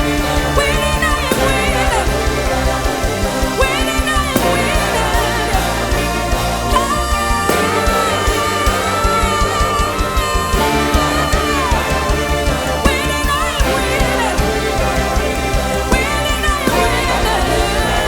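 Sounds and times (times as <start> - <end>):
person singing: 0.0 - 18.0
worship band playing: 0.0 - 18.0.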